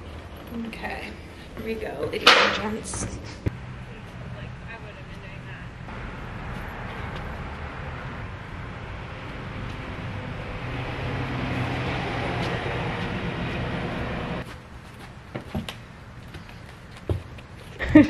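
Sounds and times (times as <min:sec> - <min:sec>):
vehicle engine and road noise: 0:00.0 - 0:17.8.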